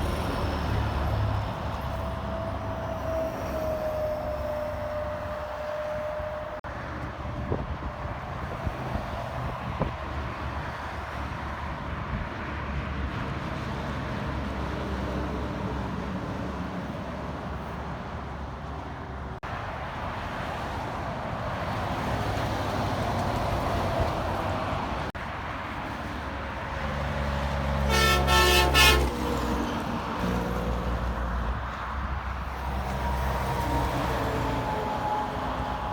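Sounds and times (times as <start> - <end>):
road traffic drone: 0.0 - 35.9.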